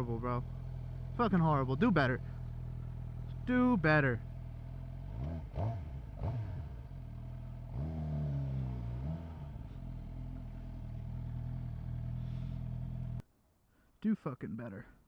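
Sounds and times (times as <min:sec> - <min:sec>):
motorcycle engine revving: 0:00.0 - 0:13.2.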